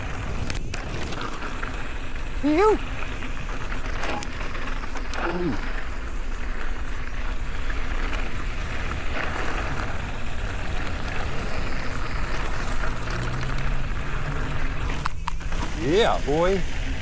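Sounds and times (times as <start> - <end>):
low hum: 0.0 - 17.0
tyres rumbling over ground: 0.0 - 17.0.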